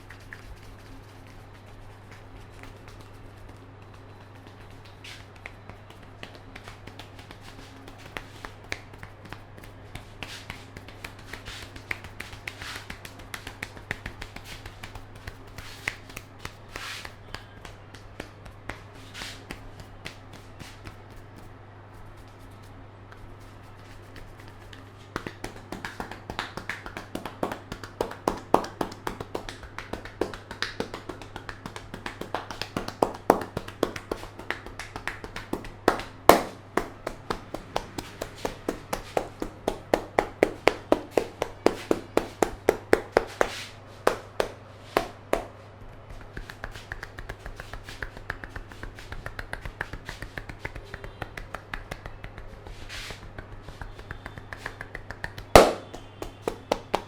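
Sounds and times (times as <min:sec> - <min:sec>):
hands tapping on head: 0:00.0 - 0:21.5, 0:23.1 - 0:57.0
loud hand slap: 0:04.4 - 0:21.5, 0:24.2 - 0:57.0.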